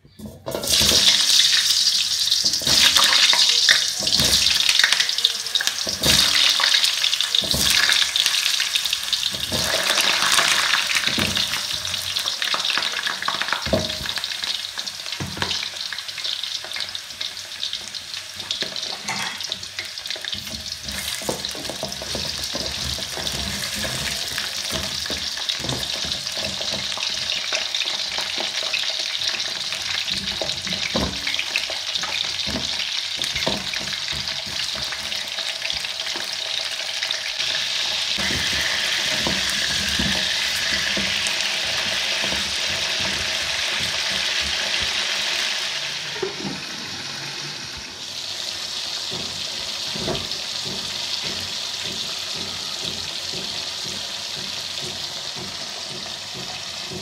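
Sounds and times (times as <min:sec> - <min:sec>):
potatoes sizzling in hot oil: 0:00.2 - 0:57.0.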